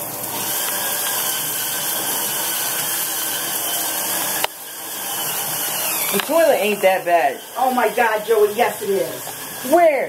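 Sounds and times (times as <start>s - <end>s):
electric spin scrubber whirring: 0.3s - 10.0s.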